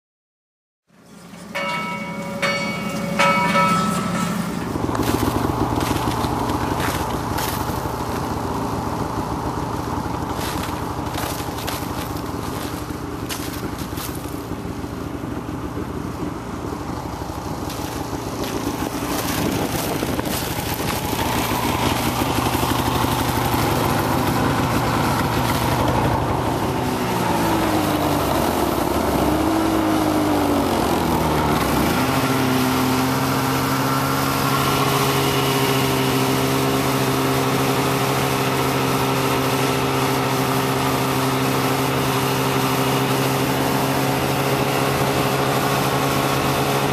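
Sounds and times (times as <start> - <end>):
snowmobile engine revving: 1.2 - 14.7, 17.1 - 46.9.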